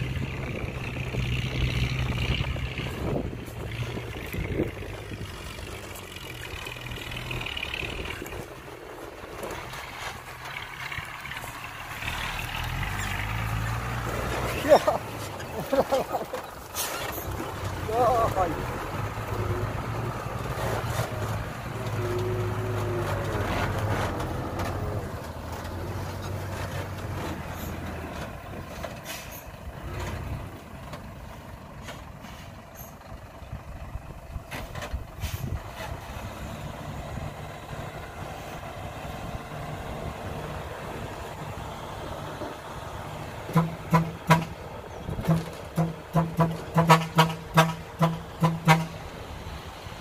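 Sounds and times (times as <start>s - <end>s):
truck diesel engine running: 0.0s - 50.0s.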